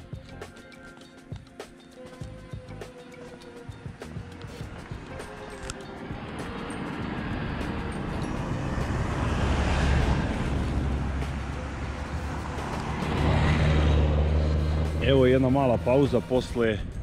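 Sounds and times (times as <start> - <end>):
road noise: 0.0 - 17.0
vehicle engine humming: 0.0 - 17.0.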